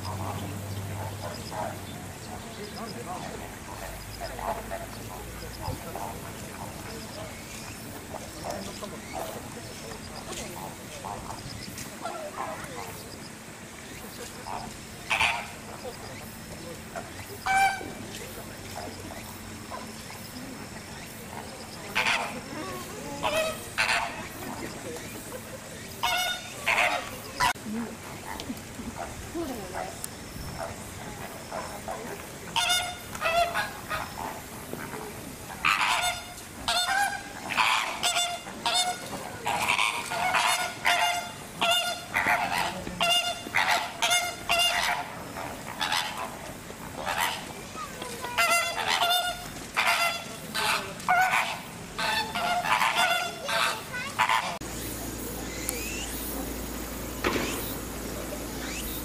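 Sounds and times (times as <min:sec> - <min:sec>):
flamingos honking: 0:00.0 - 0:59.0
steady background hum: 0:00.0 - 0:59.0.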